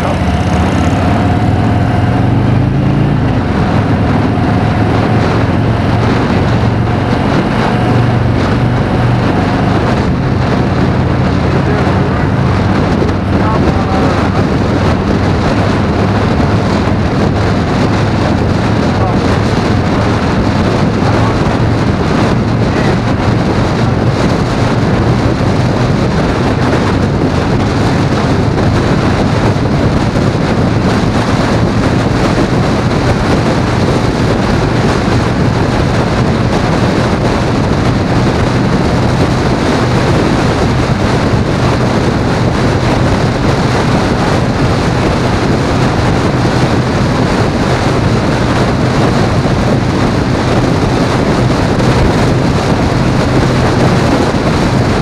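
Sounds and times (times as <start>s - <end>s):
low engine drone: 0.0s - 55.0s
wind rushing over microphone: 0.0s - 55.0s.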